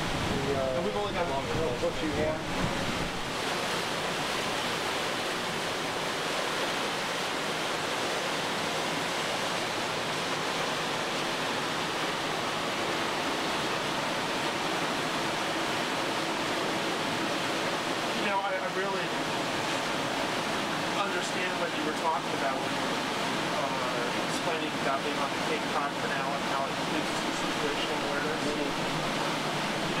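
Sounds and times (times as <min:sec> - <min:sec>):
water rushing past boat: 0:00.0 - 0:30.0.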